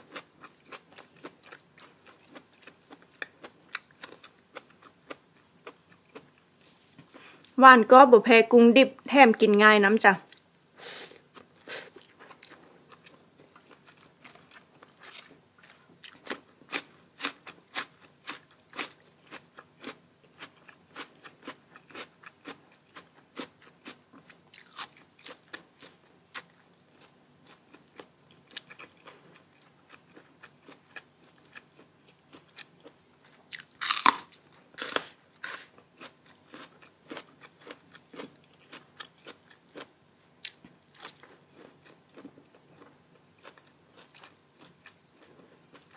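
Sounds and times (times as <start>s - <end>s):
chewing crisp food: 0.0s - 7.6s, 11.2s - 45.9s.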